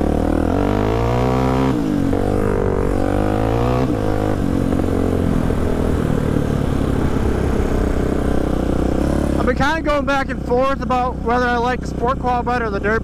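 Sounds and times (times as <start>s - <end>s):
quad engine accelerating: 0.0s - 13.0s.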